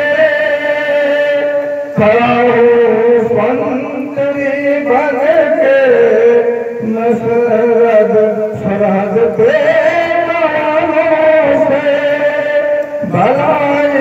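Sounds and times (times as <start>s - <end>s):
man singing into microphone: 0.0s - 14.0s.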